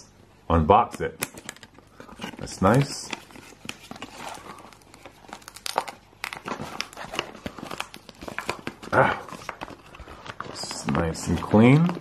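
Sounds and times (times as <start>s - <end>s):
plastic bag and card rustling: 1.3s - 12.0s.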